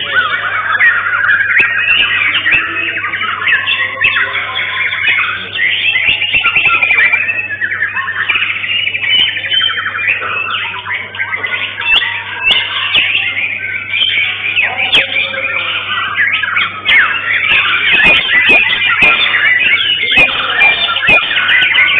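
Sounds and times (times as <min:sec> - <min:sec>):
bird singing trills and whistles: 0:00.0 - 0:21.9.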